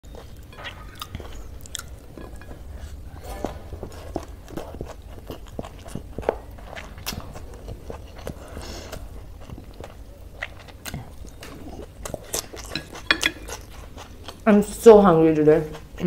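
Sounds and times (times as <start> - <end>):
chewing with wet smacks: 0.0 - 14.8.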